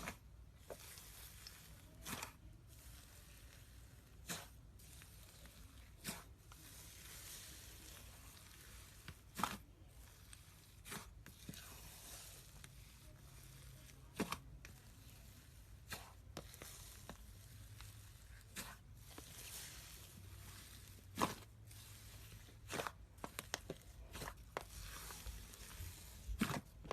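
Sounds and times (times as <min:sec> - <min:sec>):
sticky slime crackle: 0:00.0 - 0:26.9.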